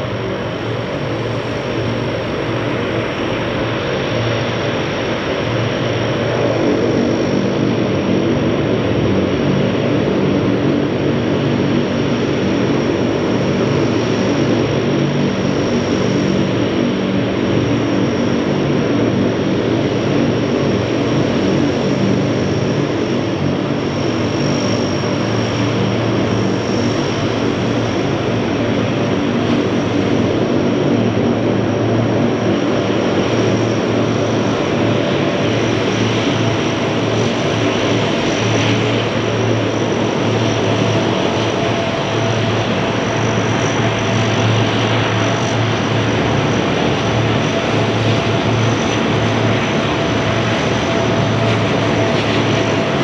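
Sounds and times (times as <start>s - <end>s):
propeller hum: 0.0s - 53.0s
turbine whine: 0.0s - 53.0s.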